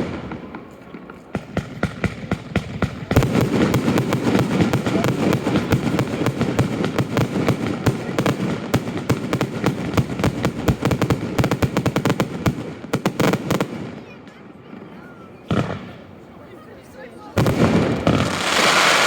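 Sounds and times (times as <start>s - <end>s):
fireworks cracking and banging: 0.0s - 19.0s.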